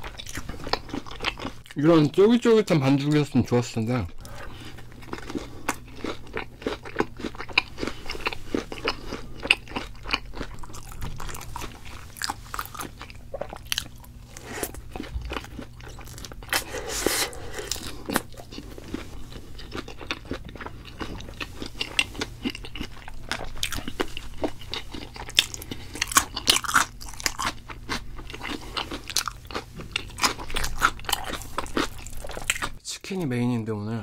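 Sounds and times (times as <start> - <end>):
crunchy food chewing: 0.0 - 2.0, 4.1 - 32.8.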